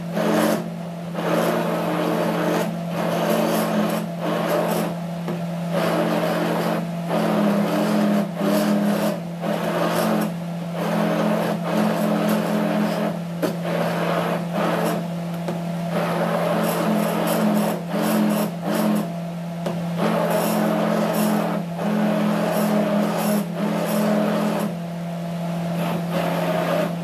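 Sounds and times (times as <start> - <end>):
immersion blender motor running: 0.0 - 5.0, 5.7 - 15.1, 15.9 - 24.8, 25.7 - 27.0
blender churning thick porridge: 0.0 - 27.0.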